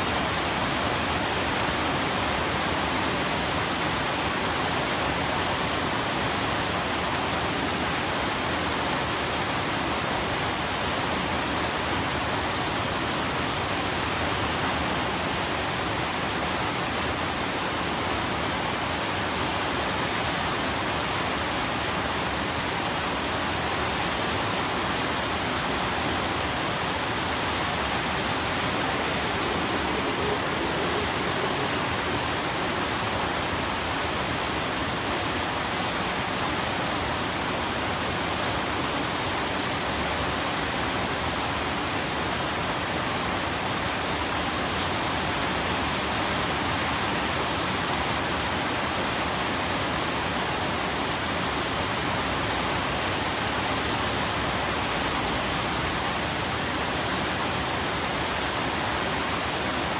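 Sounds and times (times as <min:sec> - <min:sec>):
dense rain hiss: 0:00.0 - 0:59.9.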